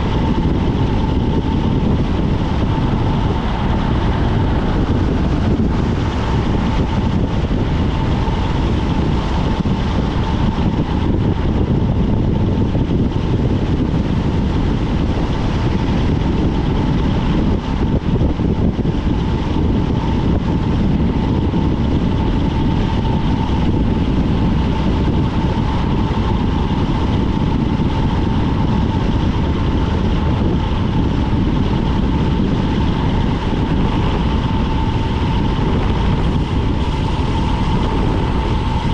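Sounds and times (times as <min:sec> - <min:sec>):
thin steady whine: 0:00.0 - 0:38.9
tyre roar on asphalt: 0:00.0 - 0:38.9
wind rushing over microphone: 0:00.0 - 0:38.9.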